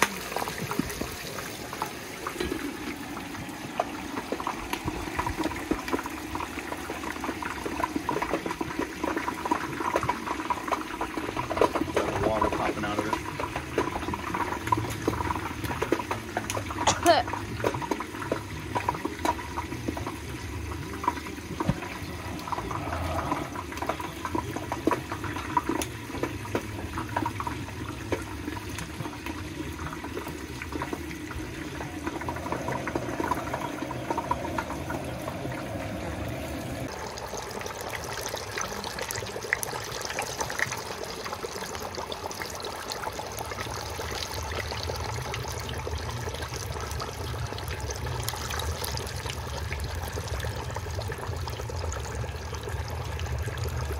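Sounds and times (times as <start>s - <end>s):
oil bubbling and sizzling: 0.0s - 53.9s
small crackles of frying: 0.0s - 53.9s.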